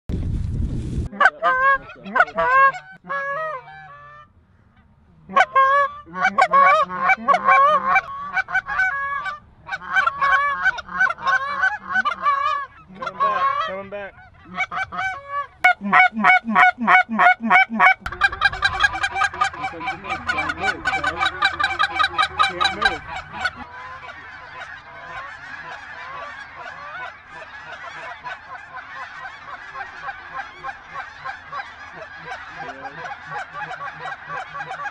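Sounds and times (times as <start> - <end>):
goose call blown: 1.1 - 4.3, 5.3 - 34.9
flock of geese calling: 1.1 - 34.9.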